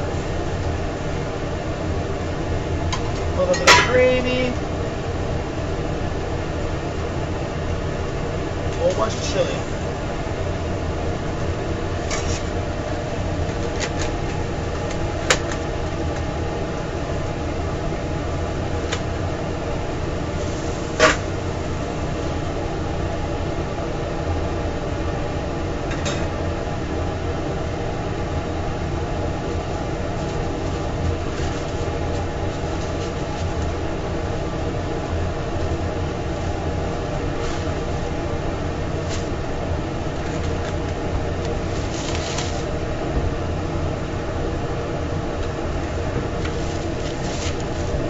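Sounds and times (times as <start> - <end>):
kitchen machinery humming: 0.0 - 48.0.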